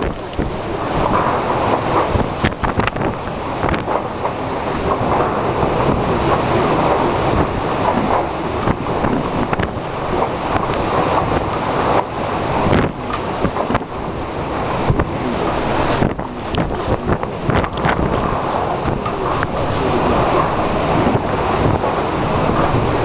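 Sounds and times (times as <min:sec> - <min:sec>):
strong gusting wind: 0:00.0 - 0:23.0
wind buffeting microphone: 0:00.0 - 0:23.0.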